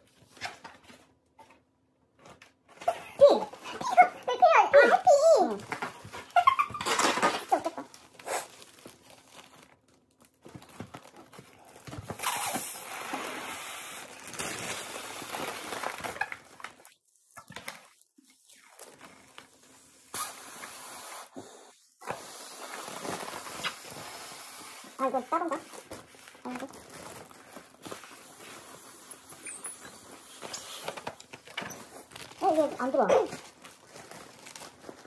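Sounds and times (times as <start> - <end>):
foil balloons crinkling: 0.0 - 35.0.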